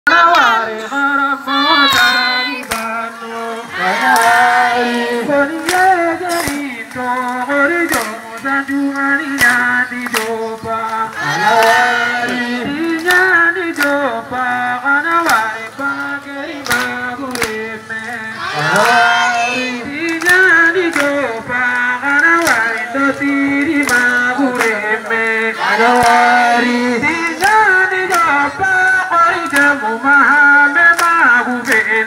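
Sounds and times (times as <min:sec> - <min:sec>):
voices singing a chant: 0:00.1 - 0:32.0
sharp hand clap: 0:01.9 - 0:03.0, 0:04.0 - 0:14.4, 0:15.0 - 0:32.0.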